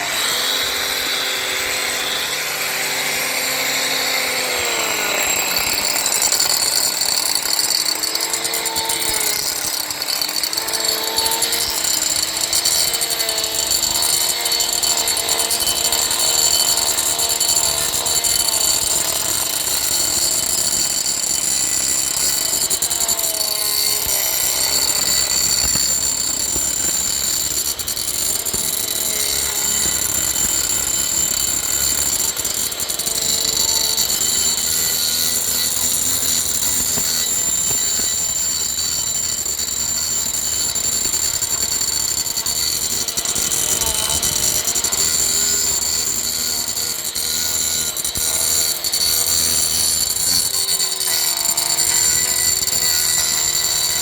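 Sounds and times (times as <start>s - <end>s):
angle grinder milling wood: 0.0s - 54.0s.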